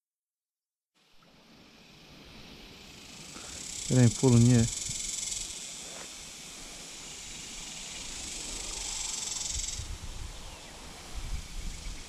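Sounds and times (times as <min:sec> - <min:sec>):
cicadas droning: 0:01.0 - 0:12.0.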